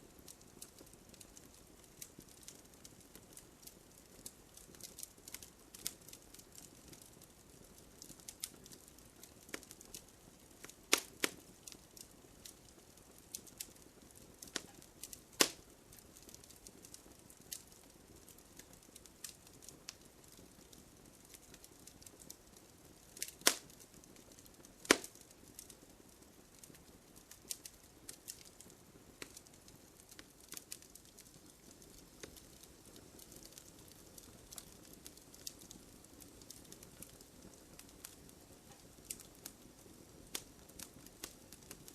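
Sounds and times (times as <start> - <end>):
wood fire crackling: 0.0 - 41.9
burning wood snapping: 0.2 - 7.2, 8.0 - 25.8, 26.5 - 39.6, 40.2 - 41.9.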